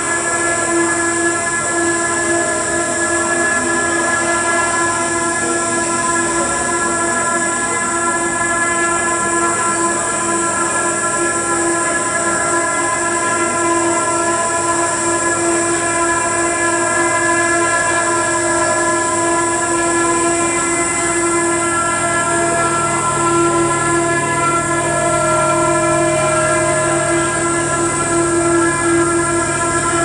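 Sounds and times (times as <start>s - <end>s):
electronic drone chord: 0.0s - 30.0s
low electronic tone: 0.0s - 30.0s.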